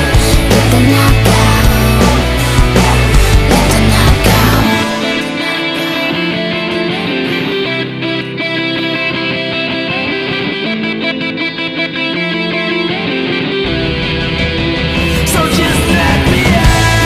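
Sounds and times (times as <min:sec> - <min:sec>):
guitar-led song: 0:00.0 - 0:17.0.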